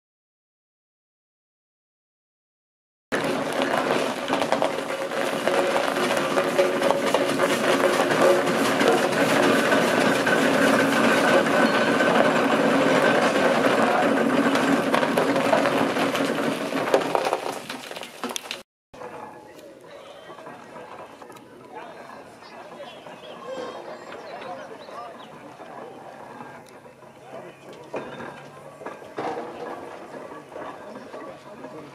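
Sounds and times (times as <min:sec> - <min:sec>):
steam engine mechanical clatter: 0:03.2 - 0:31.9.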